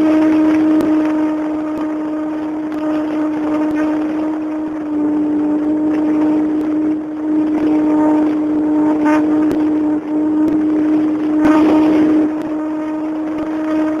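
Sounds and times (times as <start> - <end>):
small airplane engine drone: 0.0 - 14.0.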